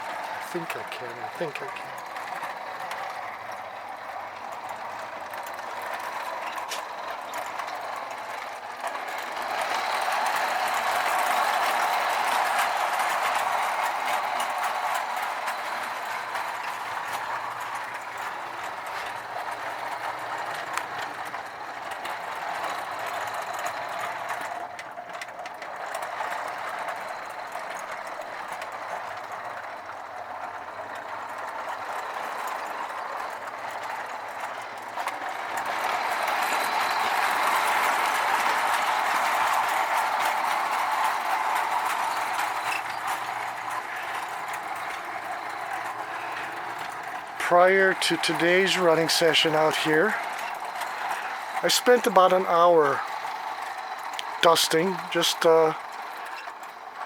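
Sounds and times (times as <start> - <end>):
toy train motor whirring: 0.0 - 57.0
train wheels on rails: 0.0 - 57.0.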